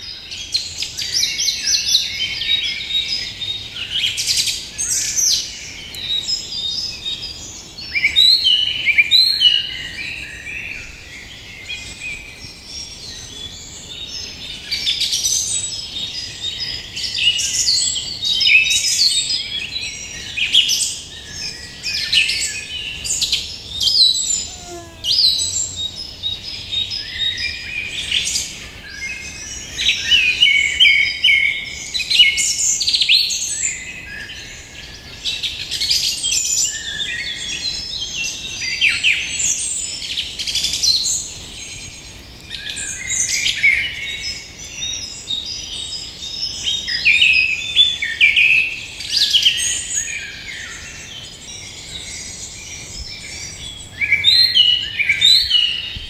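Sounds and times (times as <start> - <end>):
small birds chirping and singing: 0.0 - 56.0.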